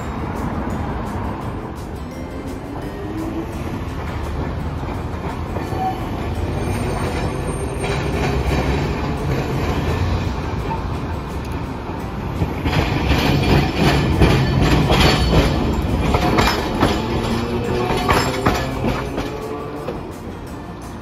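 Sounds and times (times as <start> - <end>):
tram rumbling: 0.0 - 21.0.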